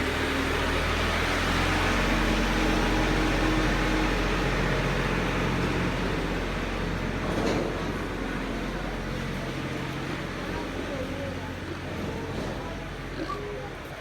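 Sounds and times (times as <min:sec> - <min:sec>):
constant noise: 0:00.0 - 0:14.0.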